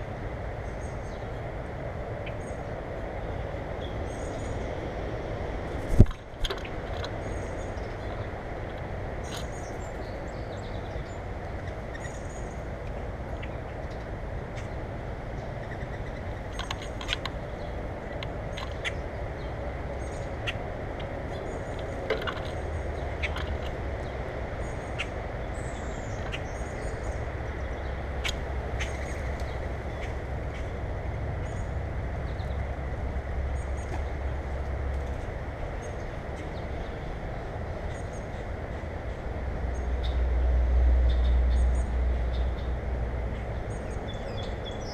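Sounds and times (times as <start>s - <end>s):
small birds chirping: 2.2s - 44.9s.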